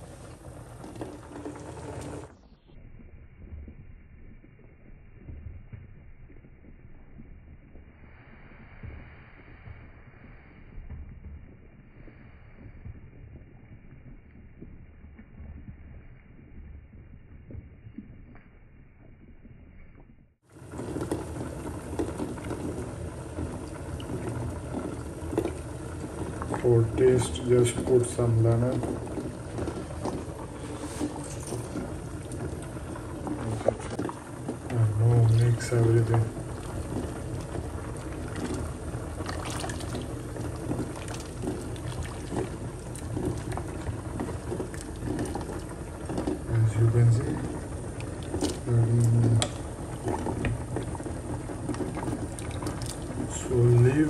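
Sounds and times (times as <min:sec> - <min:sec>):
steady low hum: 0:00.0 - 0:19.6, 0:20.2 - 0:54.0
pot boiling and bubbling: 0:00.0 - 0:54.0.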